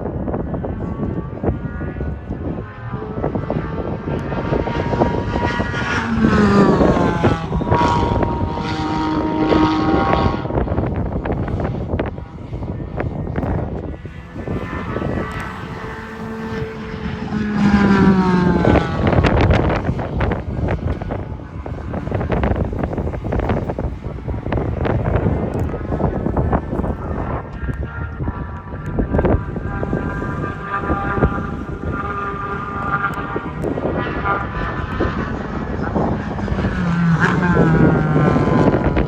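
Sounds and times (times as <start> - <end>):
race cars passing at speed: 0.0 - 39.0
wind buffeting microphone: 0.0 - 39.0.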